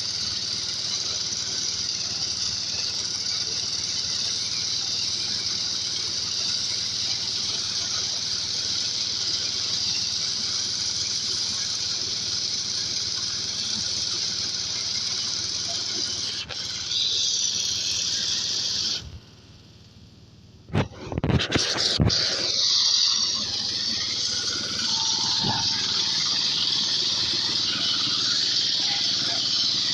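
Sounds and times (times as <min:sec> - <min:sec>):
corn rattling through sheller: 0:00.0 - 0:19.1, 0:20.7 - 0:29.9.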